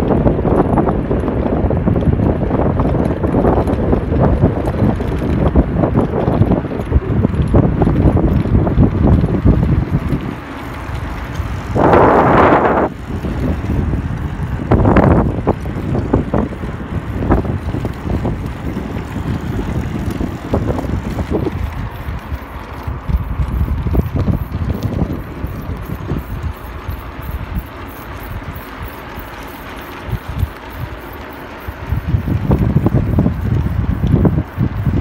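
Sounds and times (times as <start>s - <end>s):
bicycle rolling on road rumble: 0.0s - 35.0s
wind buffeting microphone: 0.0s - 35.0s.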